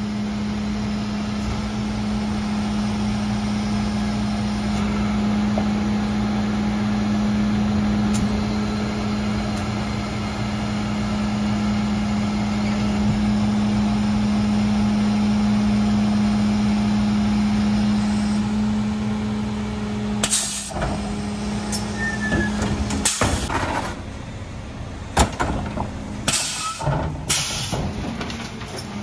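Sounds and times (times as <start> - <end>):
truck engine humming: 0.0 - 29.0.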